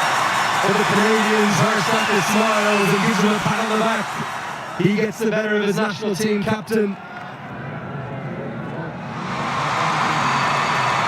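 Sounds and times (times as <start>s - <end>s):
stadium crowd noise: 0.0s - 11.0s.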